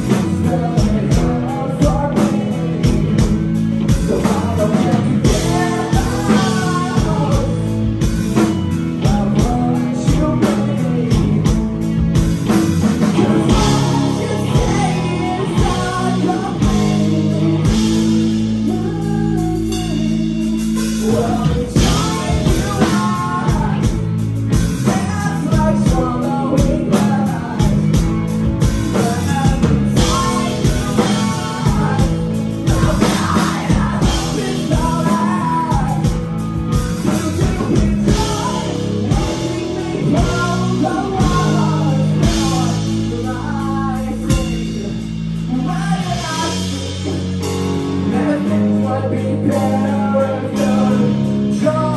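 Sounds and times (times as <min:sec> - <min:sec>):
person singing: 0:00.0 - 0:51.9
rock band playing: 0:00.0 - 0:51.9.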